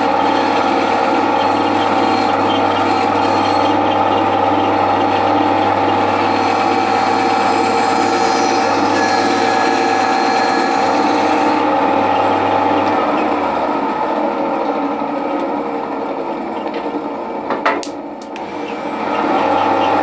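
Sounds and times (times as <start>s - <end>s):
band saw cutting wood: 0.0s - 14.8s, 18.3s - 20.0s.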